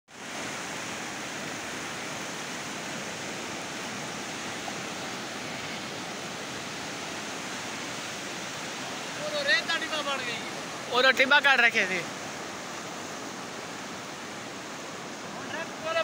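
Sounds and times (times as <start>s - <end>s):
flood water rushing: 0.1s - 16.0s.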